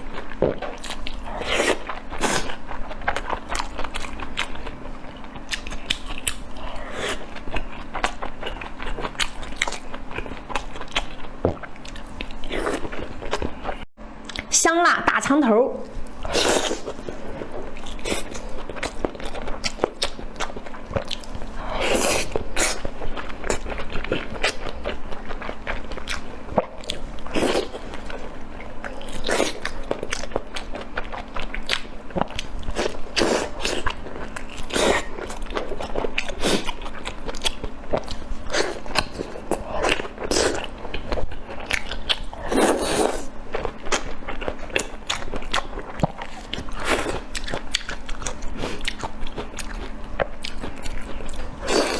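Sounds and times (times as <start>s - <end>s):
crunchy chewing and biting: 0.0s - 13.9s, 15.9s - 51.9s.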